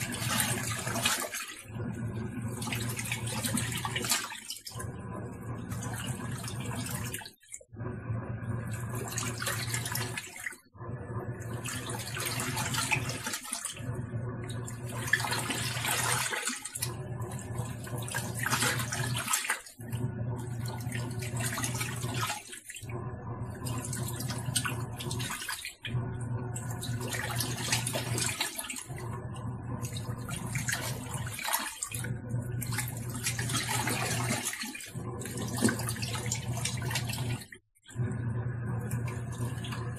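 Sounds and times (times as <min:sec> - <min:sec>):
washing machine motor humming: 0:00.0 - 0:39.9
water churning: 0:00.0 - 0:39.9.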